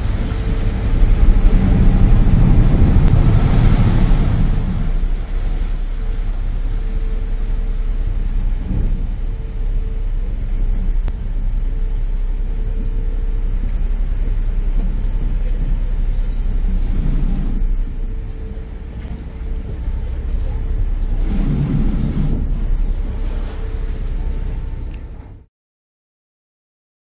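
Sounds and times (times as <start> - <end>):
faint hum: 0.0 - 25.5
ferry engine rumbling: 0.0 - 25.5.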